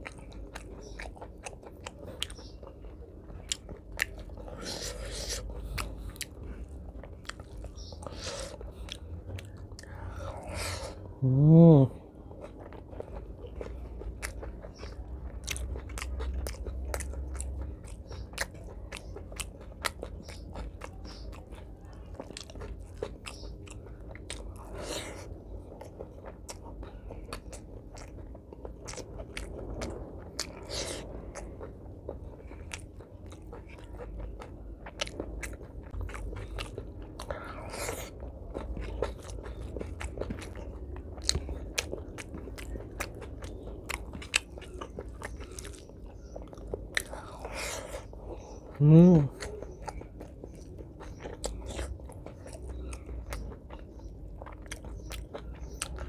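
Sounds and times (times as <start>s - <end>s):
man chewing food: 0.0s - 56.0s.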